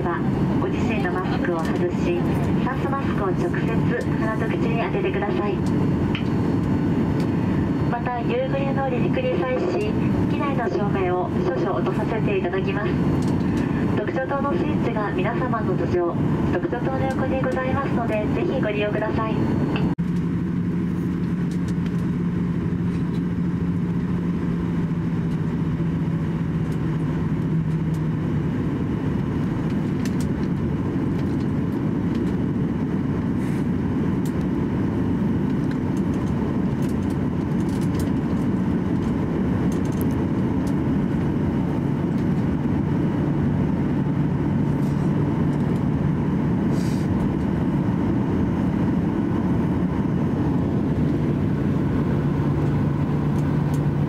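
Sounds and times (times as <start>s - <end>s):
jet engines rumbling: 0.0s - 54.0s
low steady hum: 0.0s - 54.0s.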